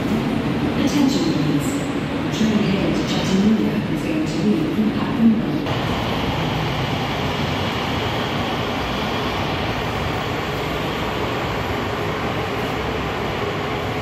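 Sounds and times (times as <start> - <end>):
light-rail train rumbling: 0.0 - 14.0.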